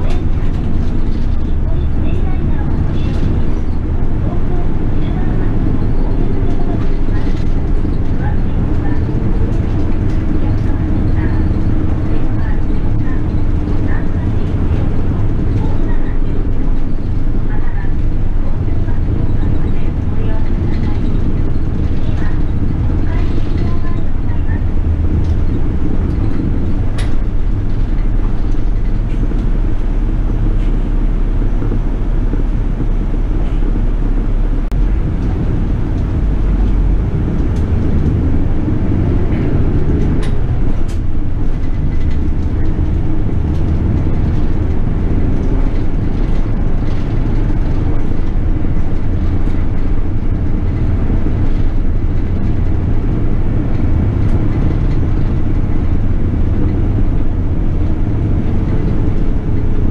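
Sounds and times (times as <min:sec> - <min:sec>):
light clicks and rattles: 0:00.0 - 0:29.8, 0:34.7 - 0:59.9
bus engine and road noise rumble: 0:00.0 - 0:59.9.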